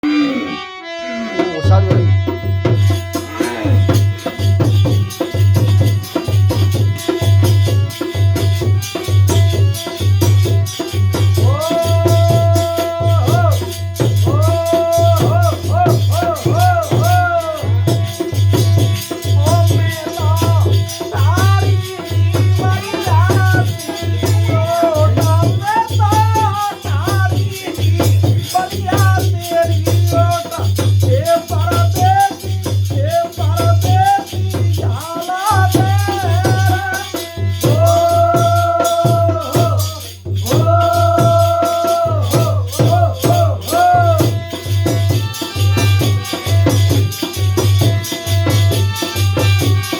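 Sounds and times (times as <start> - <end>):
low drum beat: 1.4 - 7.0, 11.2 - 48.5
rattle percussion: 1.8 - 49.9.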